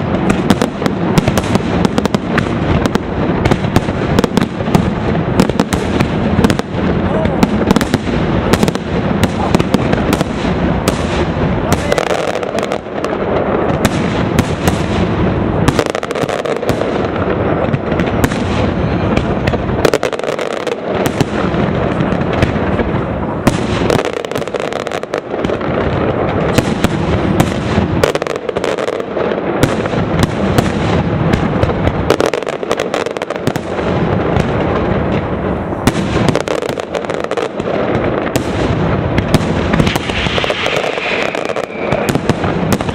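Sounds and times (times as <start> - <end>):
fireworks bursting overhead: 0.0 - 42.9.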